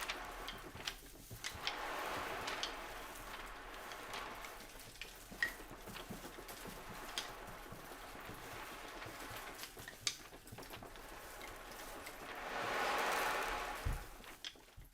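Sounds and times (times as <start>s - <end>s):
light pattering and taps: 0.0s - 12.3s
steady hiss: 0.0s - 14.8s.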